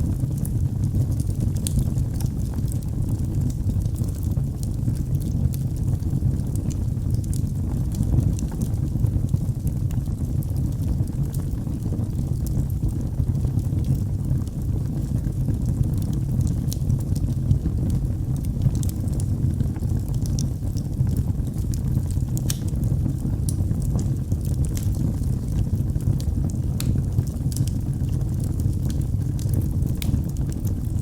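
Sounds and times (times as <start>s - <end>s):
fire crackles and pops: 0.0s - 31.0s
low rumble of flames: 0.0s - 31.0s.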